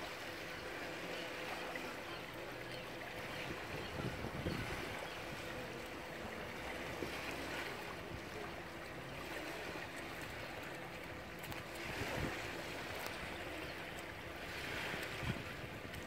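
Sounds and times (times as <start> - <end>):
fast-flowing river water: 0.0 - 16.0.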